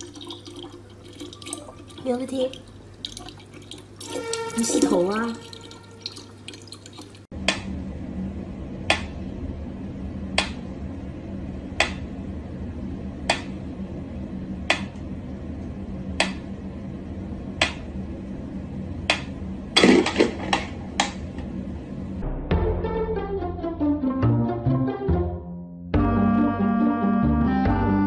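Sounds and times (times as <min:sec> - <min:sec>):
steady low hum: 0:00.0 - 0:22.5.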